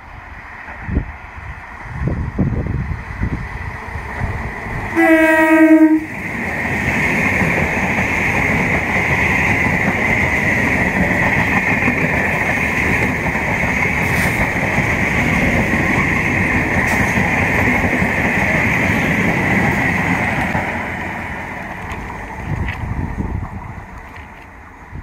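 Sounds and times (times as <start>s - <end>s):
train coaches rumbling past: 0.0s - 25.0s.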